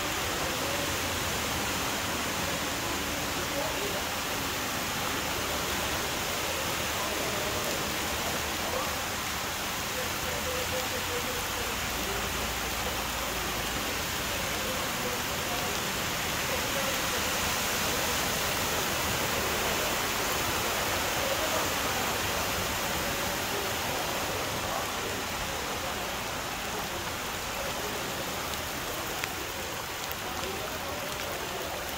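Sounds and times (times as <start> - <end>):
floodwater rushing: 0.0 - 31.9.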